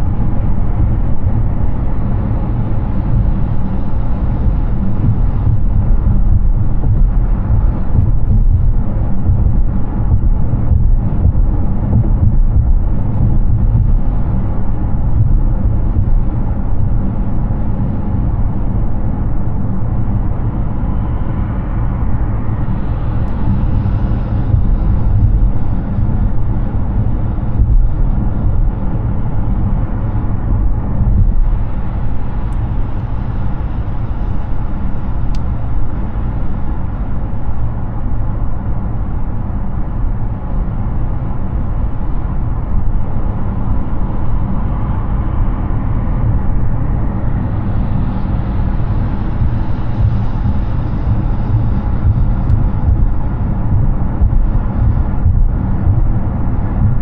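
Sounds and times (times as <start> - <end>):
rushing wind noise: 0.0 - 57.0.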